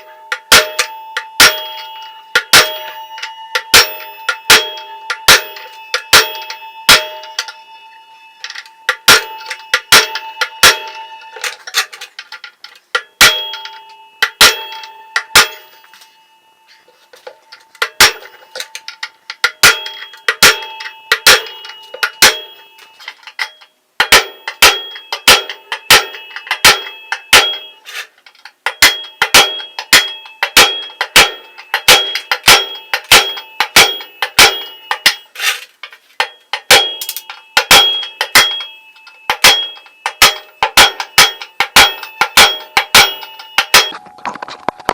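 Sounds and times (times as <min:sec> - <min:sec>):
hammer striking metal: 0:00.0 - 0:44.0.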